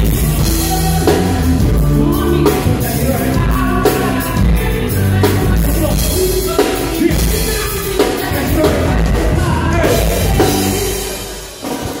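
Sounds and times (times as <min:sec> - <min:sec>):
live band playing: 0:00.0 - 0:12.0
person singing: 0:00.0 - 0:12.0.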